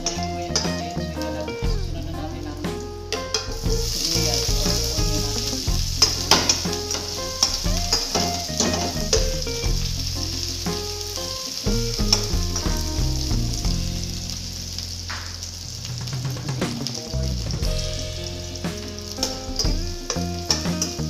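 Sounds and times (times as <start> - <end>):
food sizzling in hot oil: 3.6 - 21.0.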